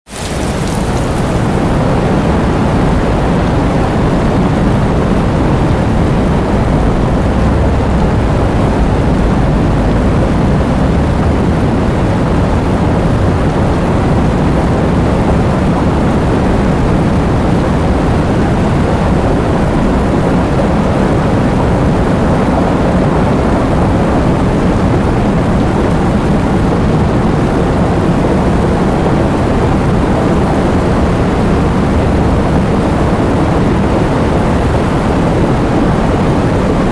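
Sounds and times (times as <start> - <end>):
heavy rain: 0.0 - 36.9
strong wind: 0.0 - 36.9.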